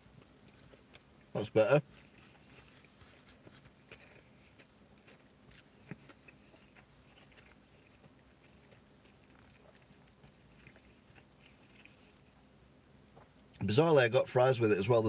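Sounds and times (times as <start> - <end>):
man chewing food: 0.0 - 13.6.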